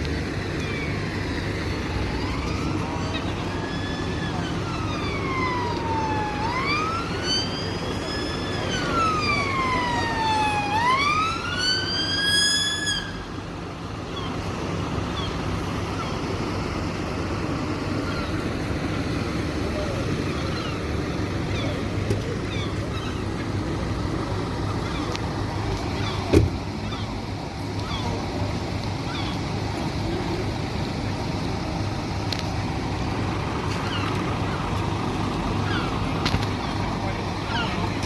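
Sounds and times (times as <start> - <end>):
emergency vehicle siren wailing: 0.2 - 38.0.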